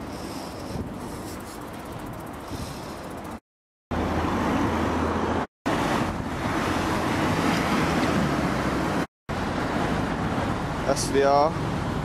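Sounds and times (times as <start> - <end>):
tyres on the road: 0.0 - 12.0.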